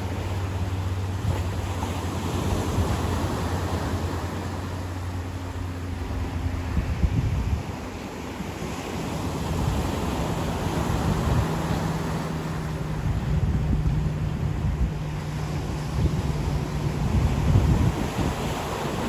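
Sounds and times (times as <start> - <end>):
ocean waves washing onto beach: 0.0 - 19.0
steady low hum: 0.0 - 19.0
wind rumbling on microphone: 0.0 - 19.0.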